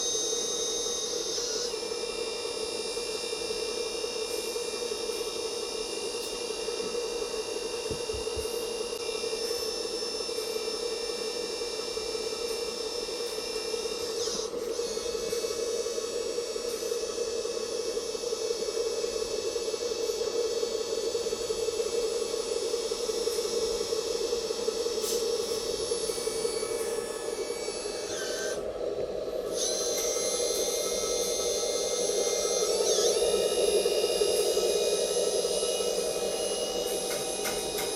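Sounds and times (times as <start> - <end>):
model truck motor humming: 0.0 - 37.9.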